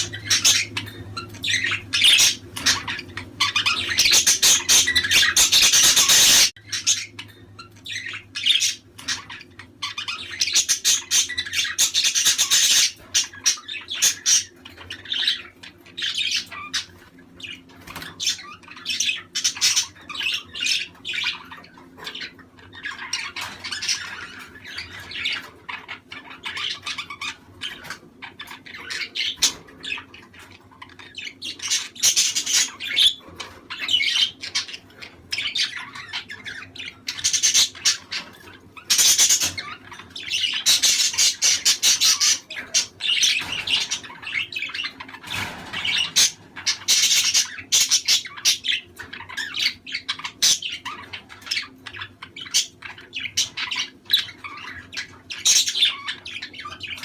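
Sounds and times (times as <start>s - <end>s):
budgies chattering and squawking: 0.0s - 57.0s.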